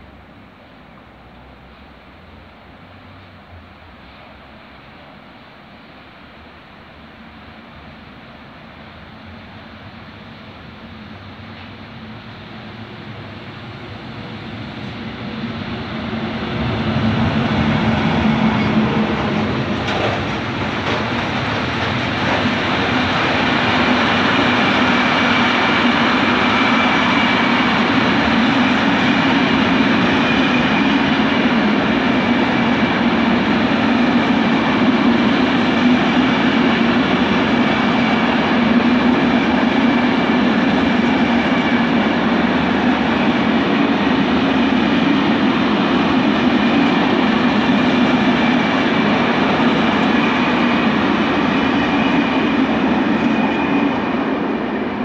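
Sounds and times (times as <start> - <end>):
freight train rumbling and rattling: 0.0 - 55.0.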